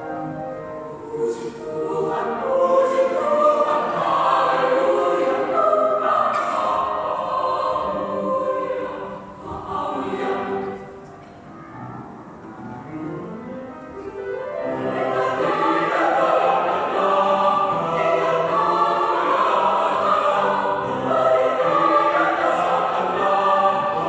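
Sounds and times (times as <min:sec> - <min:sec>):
choir singing: 0:00.0 - 0:11.2, 0:14.2 - 0:24.0.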